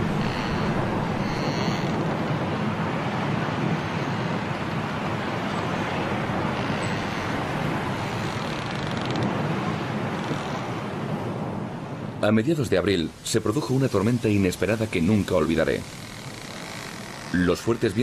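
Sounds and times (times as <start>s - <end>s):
strong wind blowing through trees: 0.0s - 18.0s.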